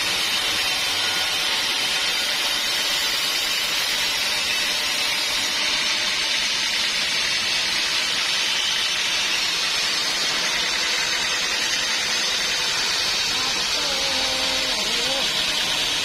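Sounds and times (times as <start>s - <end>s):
saw cutting through wood: 0.0s - 16.0s.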